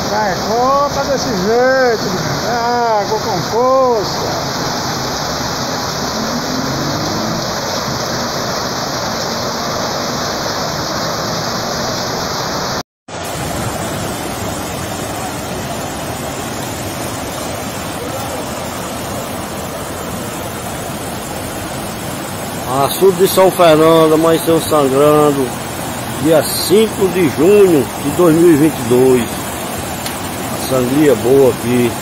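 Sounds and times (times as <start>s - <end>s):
water rushing over spillway: 0.0s - 32.0s.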